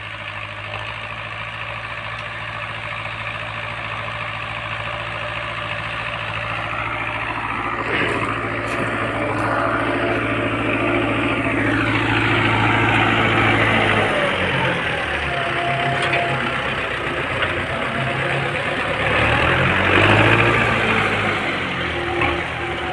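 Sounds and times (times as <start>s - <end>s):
tractor engine running: 0.0s - 22.9s.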